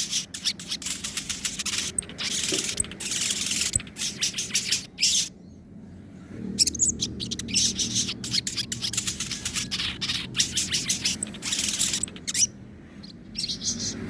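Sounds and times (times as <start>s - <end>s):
songbird chattering: 0.0s - 5.3s, 6.6s - 14.0s.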